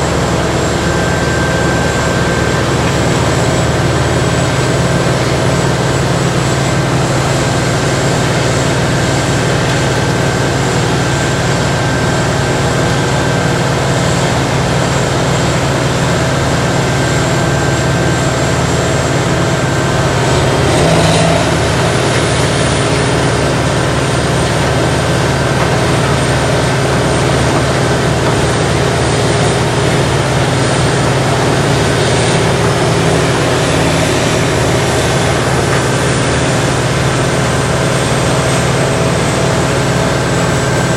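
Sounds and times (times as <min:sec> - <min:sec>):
grinder machine drone with whine: 0:00.0 - 0:40.9.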